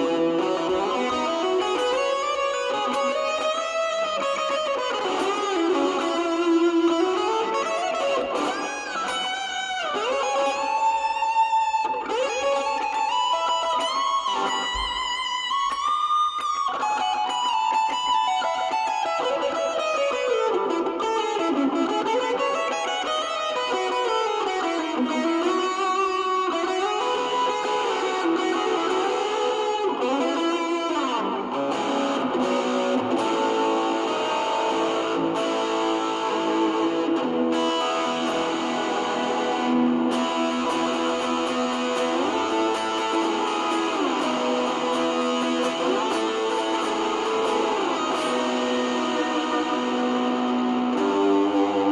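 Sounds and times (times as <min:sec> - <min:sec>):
distorted electric guitar: 0:00.0 - 0:51.9.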